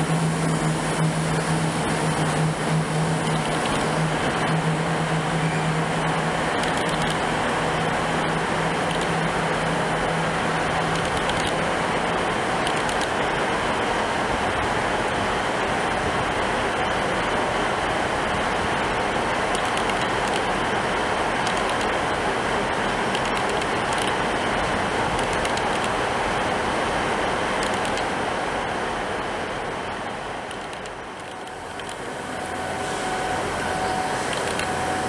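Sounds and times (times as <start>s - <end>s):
diesel train pulling away: 0.0s - 35.0s.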